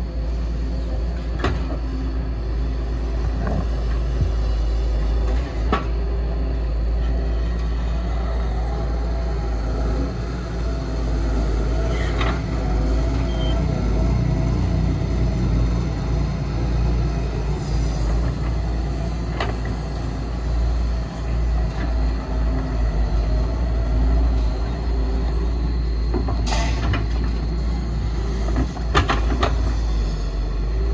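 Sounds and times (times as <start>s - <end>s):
diesel engine running under load: 0.0s - 30.9s.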